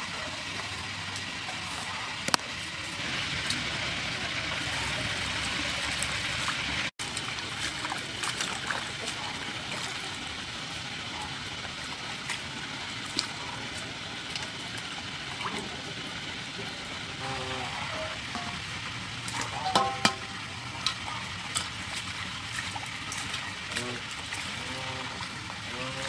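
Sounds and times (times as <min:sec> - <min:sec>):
hands sloshing water in a bowl: 0:00.0 - 0:15.9, 0:16.6 - 0:26.0
small water splashes and drips: 0:00.0 - 0:26.0.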